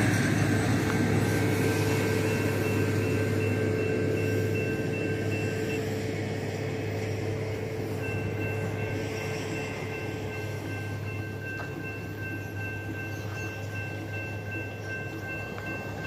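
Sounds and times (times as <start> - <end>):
crossing warning bell ringing: 0.0 - 16.0
freight train rumbling: 0.0 - 16.0.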